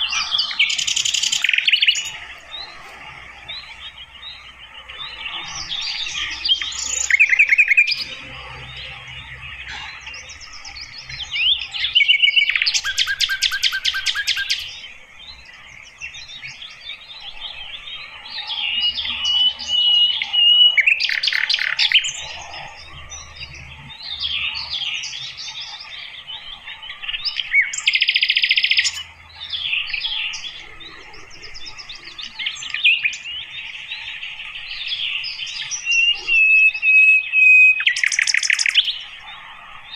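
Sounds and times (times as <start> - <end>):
bird chirps whistles and trills: 0.0 - 2.8, 3.4 - 14.8, 16.0 - 39.9.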